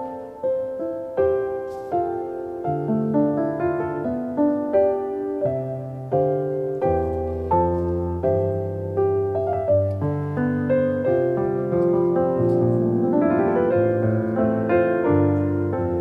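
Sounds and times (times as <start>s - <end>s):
low piano bass notes: 0.0s - 16.0s
piano notes and chords: 0.0s - 16.0s.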